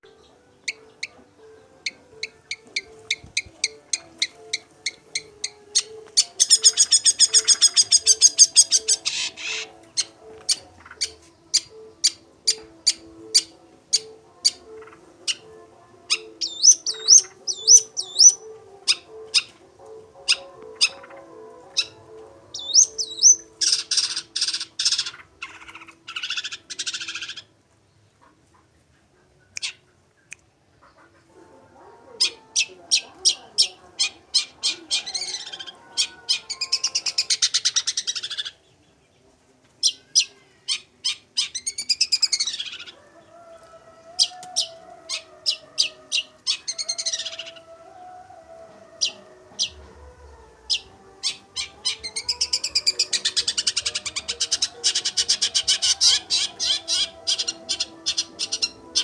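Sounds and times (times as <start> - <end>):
shrike singing: 0.0 - 27.5, 31.3 - 38.9, 39.8 - 59.0.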